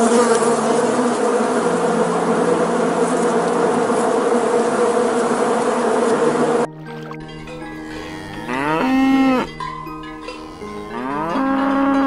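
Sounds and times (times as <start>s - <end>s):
flying insects buzzing: 0.0s - 12.0s.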